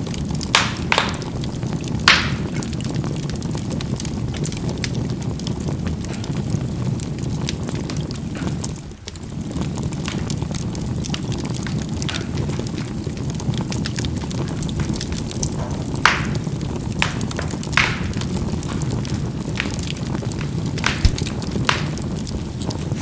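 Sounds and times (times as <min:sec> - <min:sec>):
charcoal fire crackling: 0:00.0 - 0:23.0
loud fire pops: 0:00.0 - 0:23.0.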